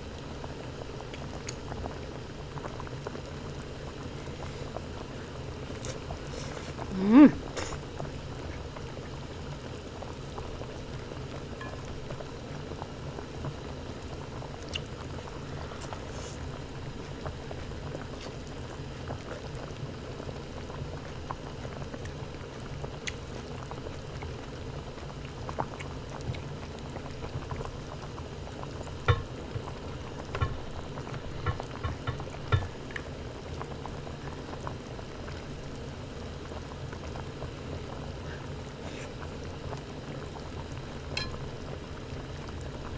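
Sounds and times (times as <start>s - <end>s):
broth bubbling in a pot: 0.0s - 42.9s.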